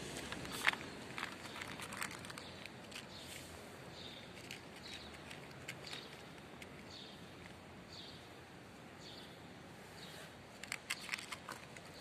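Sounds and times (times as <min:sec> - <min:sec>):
low outdoor hiss: 0:00.0 - 0:12.0
small bird chirping: 0:00.4 - 0:08.4, 0:09.0 - 0:12.0.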